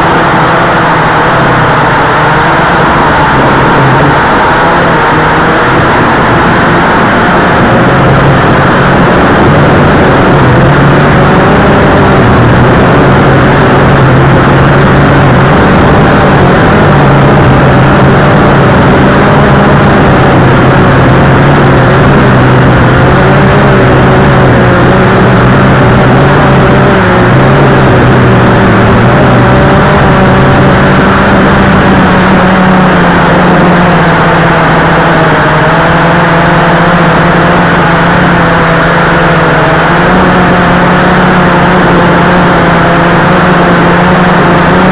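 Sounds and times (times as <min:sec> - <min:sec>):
quadcopter motors humming: 0:00.0 - 0:44.9.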